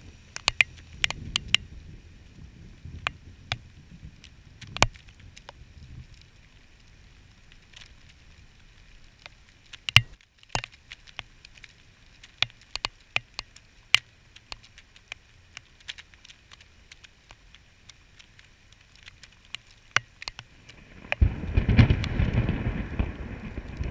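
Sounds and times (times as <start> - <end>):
faint hiss of rain: 0.0 - 23.9
raindrops clicking on camera housing: 0.0 - 23.9.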